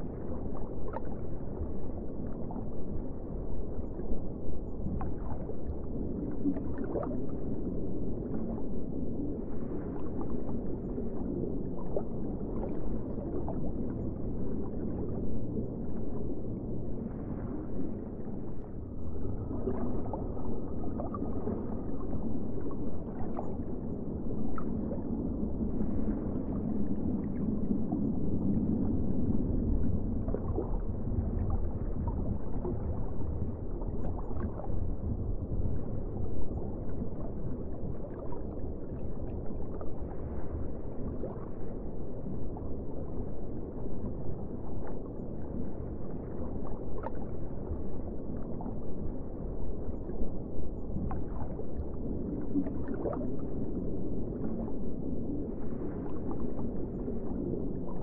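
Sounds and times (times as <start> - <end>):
muffled underwater rush of water: 0.0 - 58.0.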